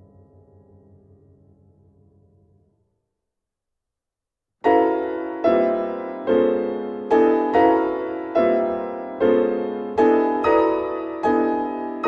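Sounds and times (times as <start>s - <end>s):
grand piano chords: 0.0s - 2.7s, 4.6s - 12.0s.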